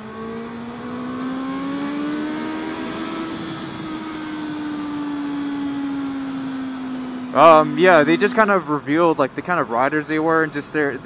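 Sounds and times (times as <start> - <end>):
motorcycle engine under throttle: 0.0 - 9.0
wind and road noise: 0.0 - 11.0.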